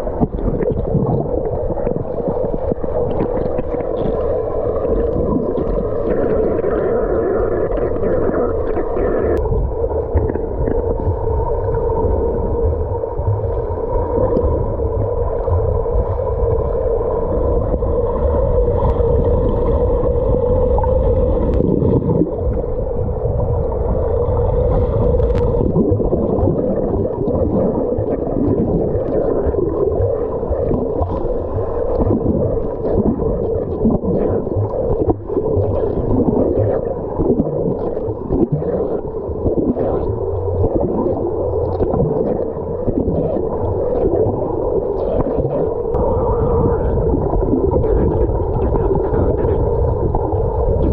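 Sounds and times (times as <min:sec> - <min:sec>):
churning water: 0:00.0 - 0:50.9
muffled underwater pool water: 0:00.0 - 0:50.9
steady hum: 0:00.0 - 0:50.9.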